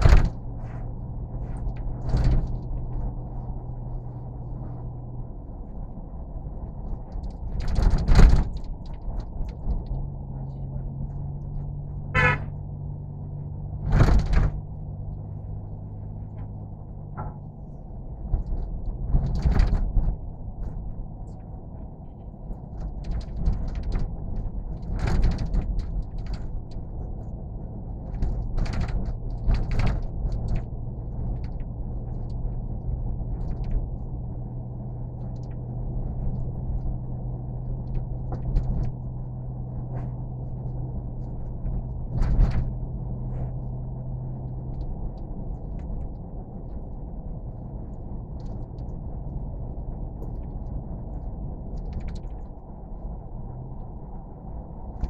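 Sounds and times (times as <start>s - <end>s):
vehicle rumble inside moving car: 0.0s - 55.0s.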